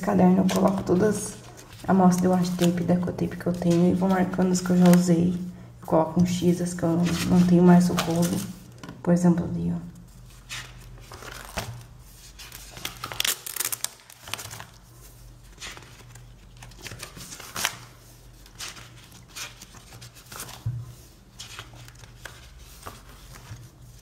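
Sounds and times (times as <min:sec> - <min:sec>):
notebook pages rustling: 0:00.2 - 0:05.4, 0:06.6 - 0:08.9, 0:10.1 - 0:24.0.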